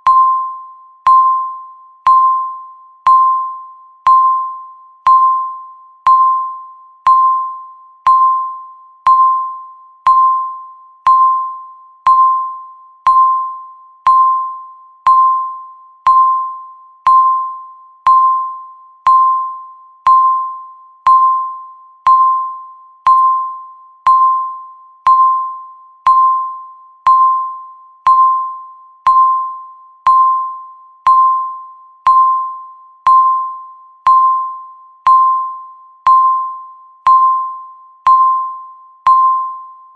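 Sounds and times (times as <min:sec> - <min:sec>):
electronic chime-like beep: 0:00.0 - 0:39.9.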